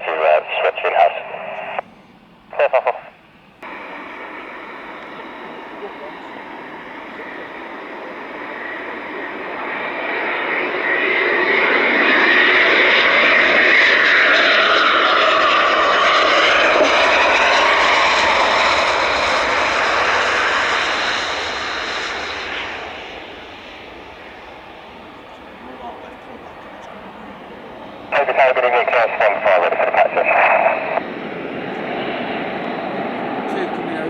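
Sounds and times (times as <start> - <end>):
aircraft flying past: 0.0 - 34.0.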